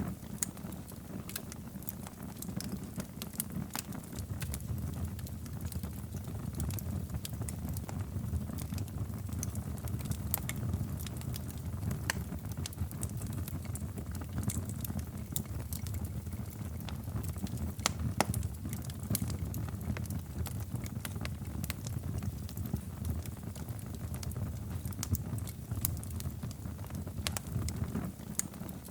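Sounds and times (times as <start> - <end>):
fire crackling and popping: 0.0 - 28.9
low fire rumble: 0.0 - 28.9.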